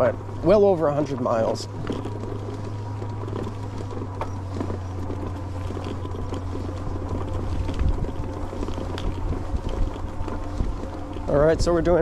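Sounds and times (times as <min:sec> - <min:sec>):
bike clicks and rattles: 0:00.0 - 0:12.0
electric hub motor hum and whine: 0:00.0 - 0:12.0
low rumble: 0:00.0 - 0:12.0.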